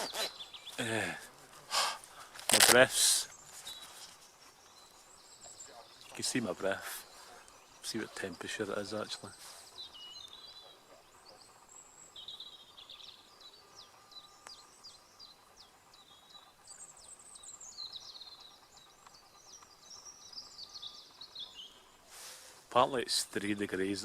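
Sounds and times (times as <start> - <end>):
small songbirds singing: 0.0 - 24.0.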